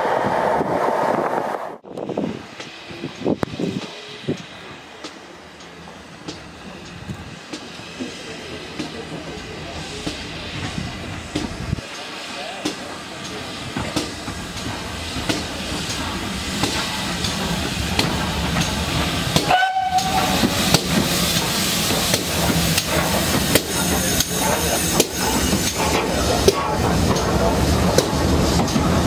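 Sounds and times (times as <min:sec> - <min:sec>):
steam locomotive passing: 0:00.0 - 0:29.0
hissing steam: 0:01.8 - 0:29.0
wheels clanking on rail joints: 0:02.6 - 0:29.0.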